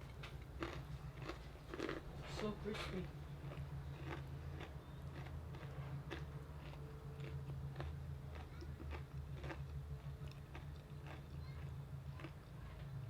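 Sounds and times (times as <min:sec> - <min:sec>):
crunching fried chicken: 0:00.0 - 0:13.0
steady low hum: 0:00.0 - 0:13.0.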